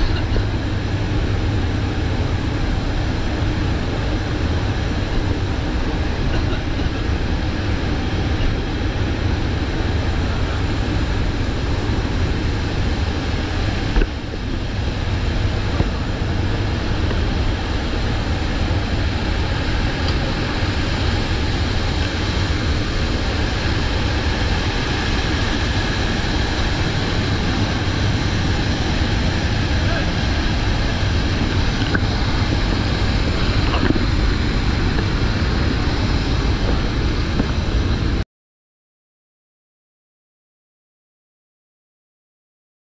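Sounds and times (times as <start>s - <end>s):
aircraft cabin drone: 0.0s - 38.2s.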